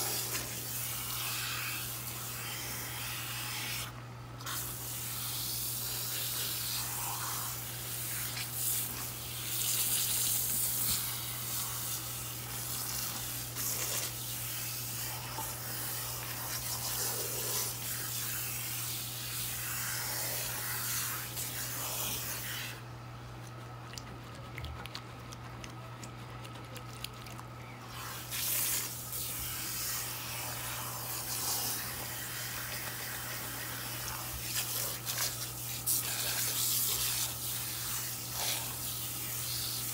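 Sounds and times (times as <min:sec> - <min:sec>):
water spraying onto hair: 0:00.0 - 0:22.8, 0:27.9 - 0:39.9.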